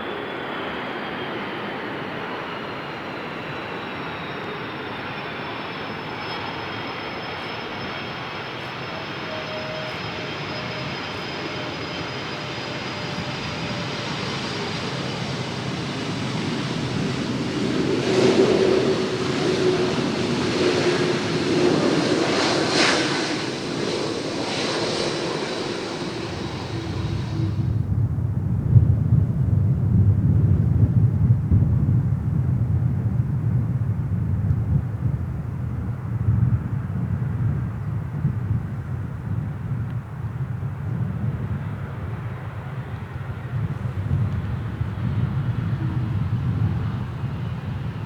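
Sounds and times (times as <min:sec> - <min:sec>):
jet engines rushing and whining: 0:00.0 - 0:28.4, 0:35.0 - 0:48.0.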